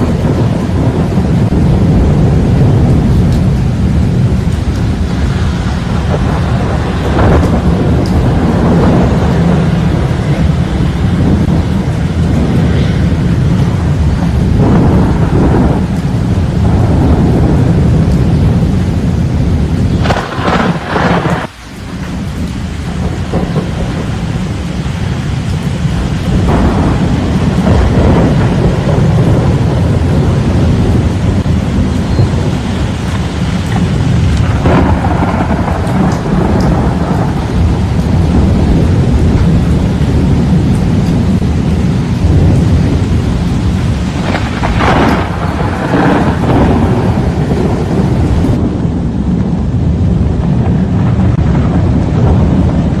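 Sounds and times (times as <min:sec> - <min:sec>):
low thunder rumble: 0:00.0 - 0:53.0
rain: 0:00.0 - 0:53.0
strong wind: 0:00.0 - 0:53.0.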